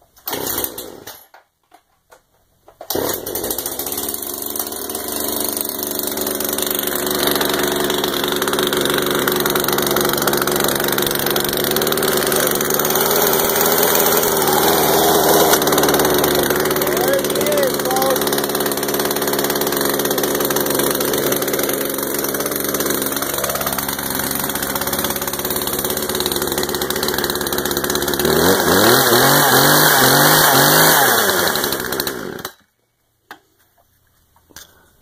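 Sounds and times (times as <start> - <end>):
chainsaw idling and revving: 0.3 - 1.2, 2.9 - 32.7.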